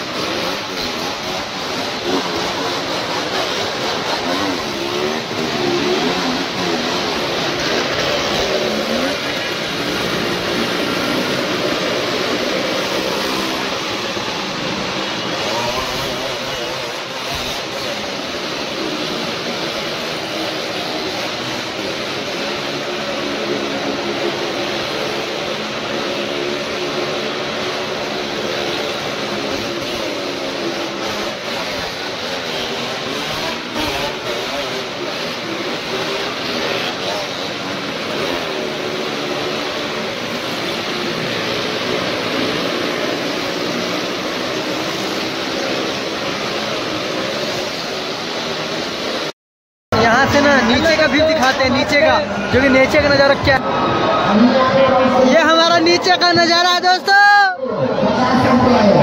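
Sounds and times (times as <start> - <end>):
motorcycle and car engines droning: 0.0 - 49.4, 50.0 - 56.9, 57.6 - 59.0.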